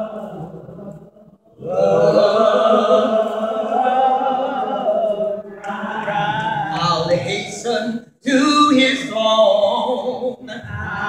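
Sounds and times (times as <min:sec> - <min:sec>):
a cappella gospel singing: 0:00.0 - 0:11.0.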